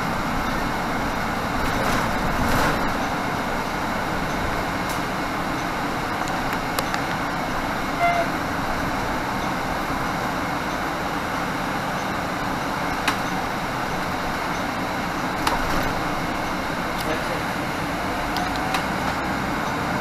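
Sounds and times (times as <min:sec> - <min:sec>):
diesel bus engine: 0:00.0 - 0:20.0
road rumble: 0:00.0 - 0:20.0.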